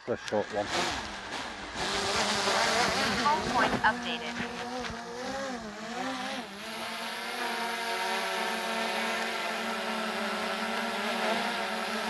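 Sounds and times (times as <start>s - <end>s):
drone propellers buzzing: 0.1s - 12.0s.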